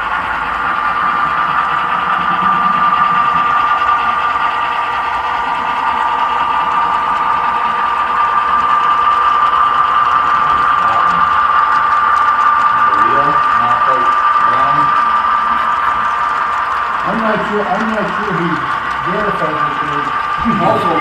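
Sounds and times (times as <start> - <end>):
model train mechanical whine: 0.0 - 21.0.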